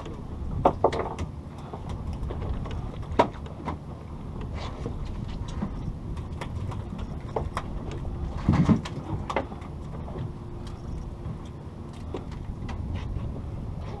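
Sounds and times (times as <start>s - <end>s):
boat engine rumble: 0.0s - 14.0s.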